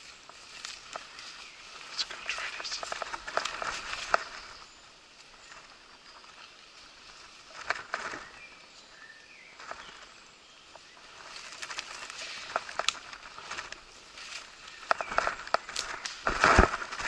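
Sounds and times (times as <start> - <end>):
sharp crackles: 0.0 - 8.6, 9.5 - 17.0
footsteps on leafy path: 0.0 - 17.0
leaves and stems rustling: 0.0 - 17.0.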